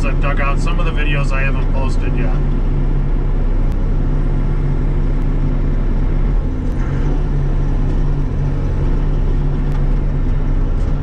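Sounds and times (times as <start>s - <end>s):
diesel excavator engine running: 0.0s - 11.0s
hydraulics working: 0.0s - 11.0s.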